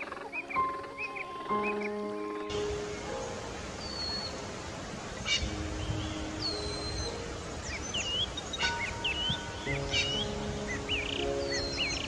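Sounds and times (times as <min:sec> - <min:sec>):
faint background music: 0:00.0 - 0:12.0
outdoor background hiss: 0:00.0 - 0:12.0.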